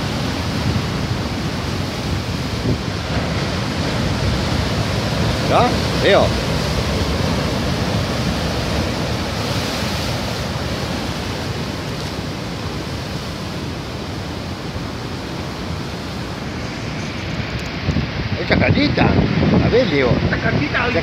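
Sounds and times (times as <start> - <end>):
surf breaking on rocky shore: 0.0 - 21.0.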